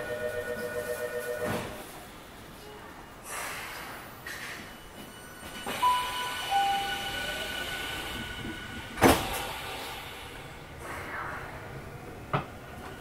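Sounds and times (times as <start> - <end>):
electric train rail rumble: 0.1 - 13.0.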